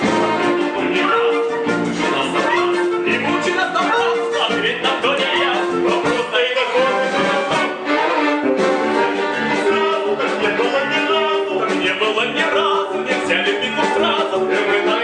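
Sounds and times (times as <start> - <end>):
theatre orchestra playing: 0.0 - 15.0.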